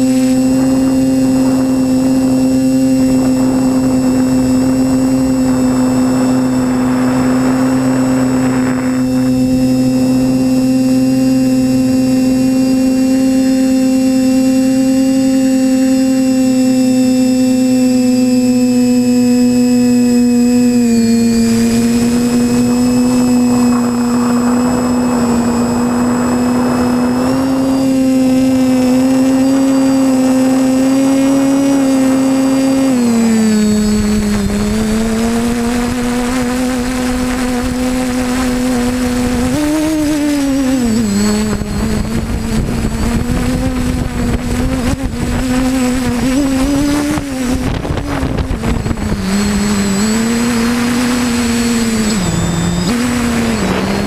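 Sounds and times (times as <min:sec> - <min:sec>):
drone motors whining: 0:00.0 - 0:54.0
wind rumble on microphone: 0:00.0 - 0:54.0.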